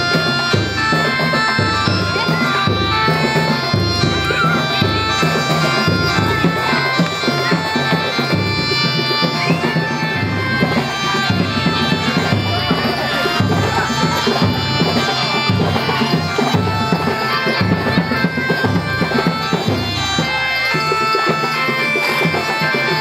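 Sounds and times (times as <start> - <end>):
reedy wind instrument melody: 0.0 - 23.0
steady drum pattern: 0.0 - 23.0.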